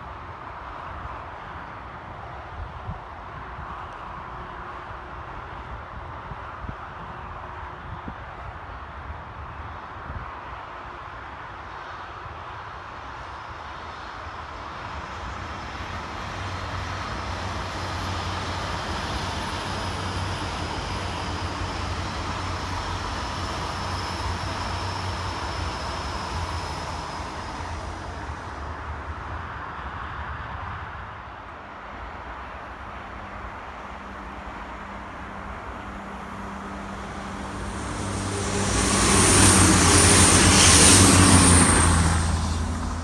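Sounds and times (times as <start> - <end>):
trains passing with low hum: 0.0 - 43.0.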